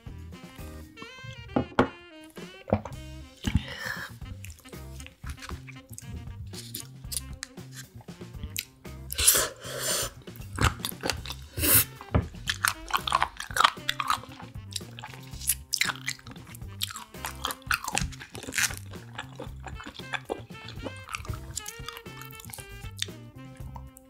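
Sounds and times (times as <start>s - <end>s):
soft music with repeating bass: 0.0s - 24.0s
crunchy chewing of seafood: 3.3s - 24.0s.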